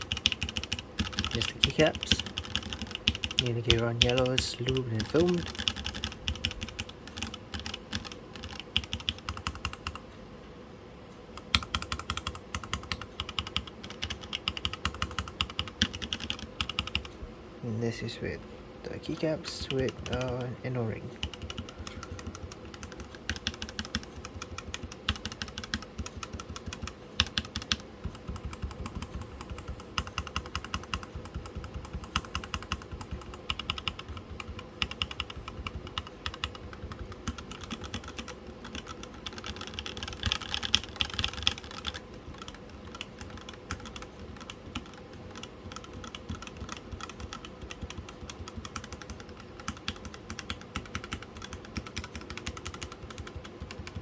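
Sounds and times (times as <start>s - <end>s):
mechanical keyboard typing: 0.0s - 10.0s, 11.4s - 17.2s, 19.0s - 54.0s.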